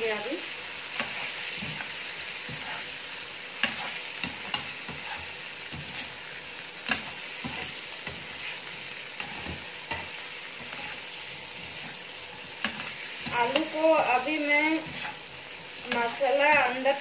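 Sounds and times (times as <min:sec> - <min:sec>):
potatoes sizzling in a pan: 0:00.0 - 0:17.0
spatula scraping a pan: 0:00.7 - 0:17.0.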